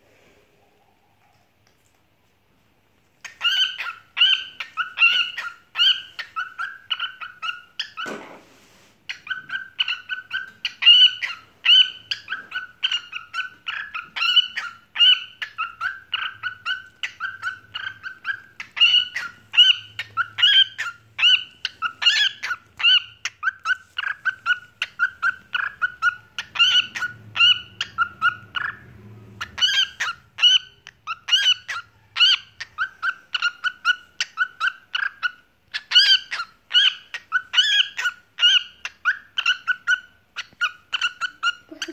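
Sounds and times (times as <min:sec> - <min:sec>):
cockatiel chirping: 0:03.2 - 0:08.2, 0:09.1 - 0:41.9.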